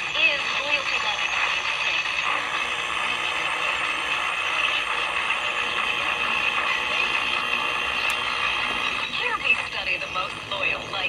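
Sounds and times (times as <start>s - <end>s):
radio static hiss and crackle: 0.0s - 11.0s.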